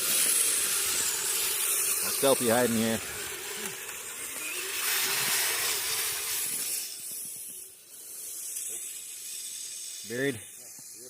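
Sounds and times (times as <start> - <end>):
electric motor whine: 0.0 - 11.0
snow hiss: 0.0 - 11.0.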